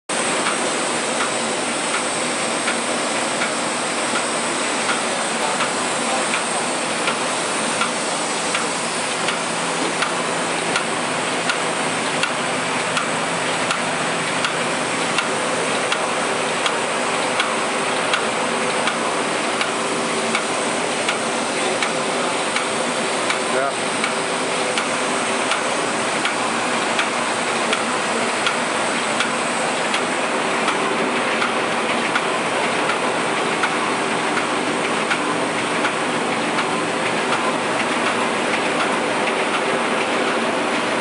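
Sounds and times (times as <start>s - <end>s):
printing press clicking: 0.1s - 41.0s
printing press rumbling: 0.1s - 41.0s.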